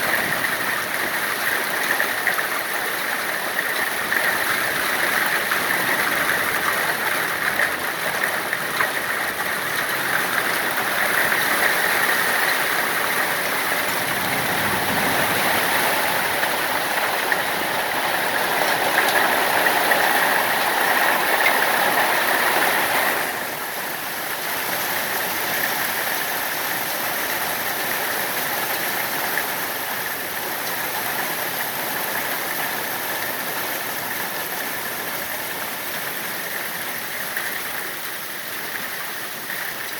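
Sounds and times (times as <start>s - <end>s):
hail and heavy rain pelting: 0.0s - 39.9s.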